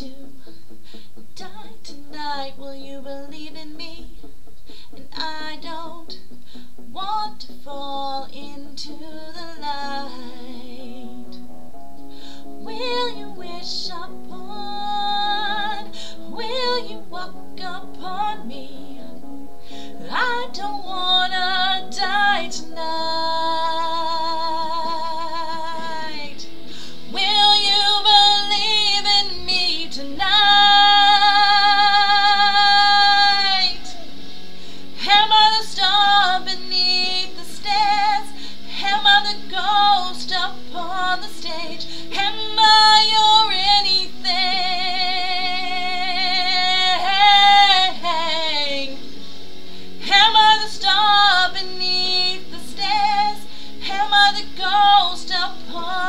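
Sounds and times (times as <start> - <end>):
woman singing with vibrato: 0.0 - 0.5, 1.3 - 11.4, 12.6 - 34.2, 34.8 - 56.0
backing track chords: 0.0 - 56.0.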